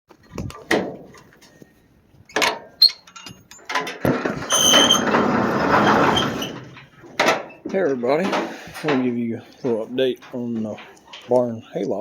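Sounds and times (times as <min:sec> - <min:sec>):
handling knocks and scrapes: 0:02.3 - 0:12.0.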